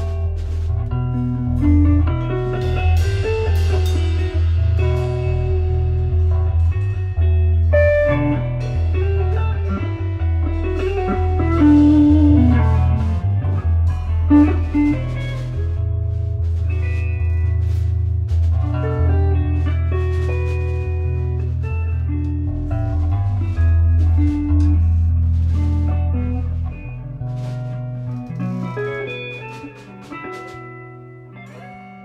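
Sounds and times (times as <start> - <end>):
drum kit with cymbal hits: 0.0 - 32.0
electric guitar melody: 0.0 - 32.0
heavy bass guitar: 0.0 - 32.0.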